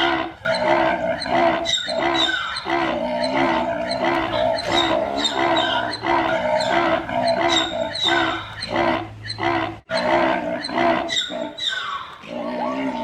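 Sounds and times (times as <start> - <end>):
zebra braying barks: 0.0 - 13.0.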